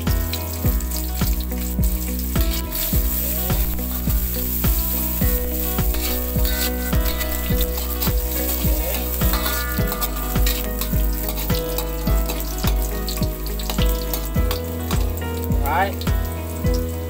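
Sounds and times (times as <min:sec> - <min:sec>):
background music with beat: 0:00.0 - 0:17.0
shallots sizzling in oil: 0:00.0 - 0:17.0.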